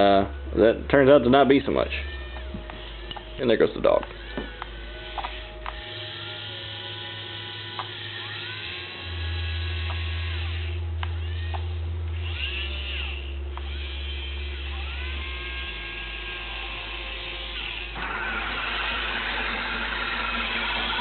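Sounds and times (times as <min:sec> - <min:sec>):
rough loud motor whir: 0:01.4 - 0:21.0
small electric motors whirring: 0:01.4 - 0:21.0.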